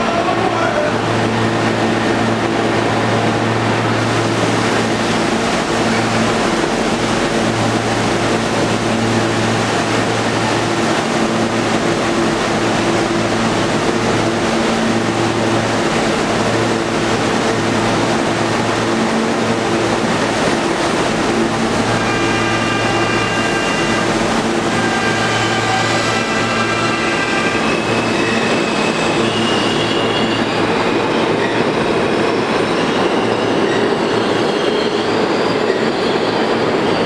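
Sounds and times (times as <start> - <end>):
train rumble and hiss: 0.0 - 37.0.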